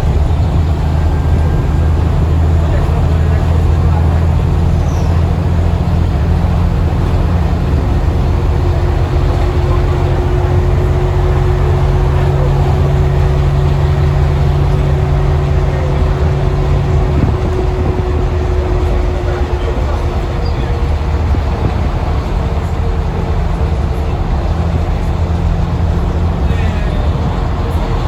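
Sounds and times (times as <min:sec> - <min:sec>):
bus diesel engine running: 0:00.0 - 0:28.0
steady whine: 0:00.0 - 0:28.0.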